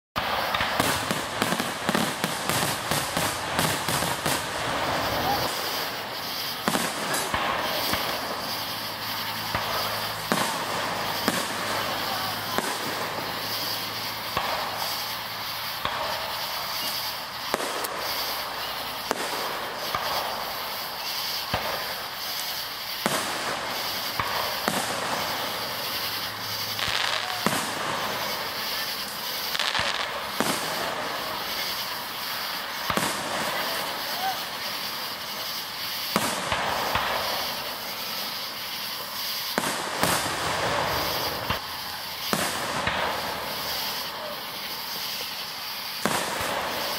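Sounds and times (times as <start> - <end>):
fireworks shells bursting: 0.2 - 46.9.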